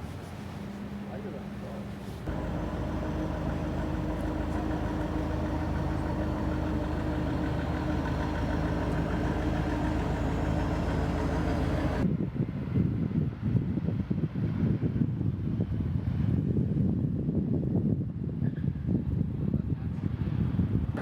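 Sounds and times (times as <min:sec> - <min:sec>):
wind buffeting microphone: 0:02.2 - 0:21.0.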